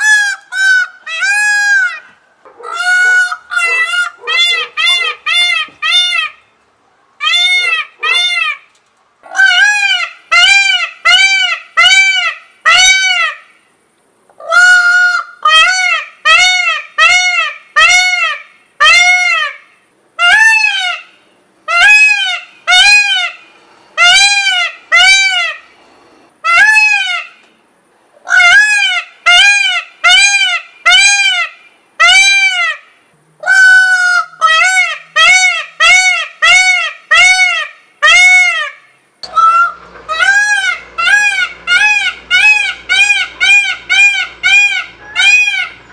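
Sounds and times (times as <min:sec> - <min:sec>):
peacock calling: 0:00.0 - 0:13.7, 0:14.4 - 0:27.6, 0:28.2 - 0:45.9.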